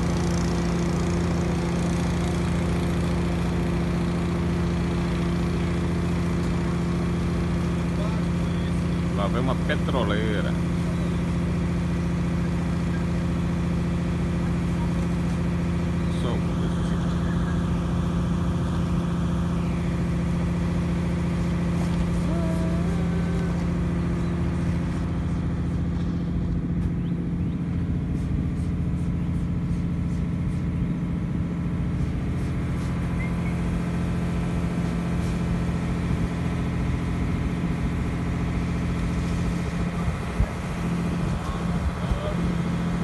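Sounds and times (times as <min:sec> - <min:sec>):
boat diesel engine droning: 0:00.0 - 0:43.0.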